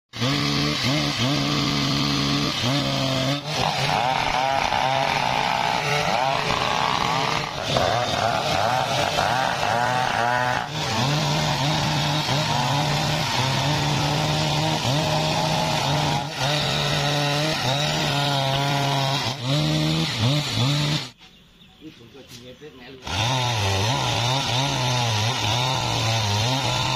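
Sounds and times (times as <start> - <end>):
chainsaw cutting through log: 0.1 - 21.2, 23.0 - 26.9.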